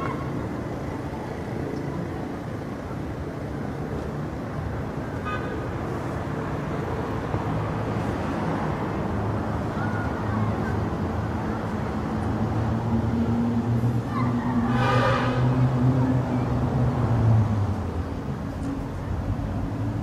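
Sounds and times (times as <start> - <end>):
distant road traffic rumble: 0.0 - 20.0.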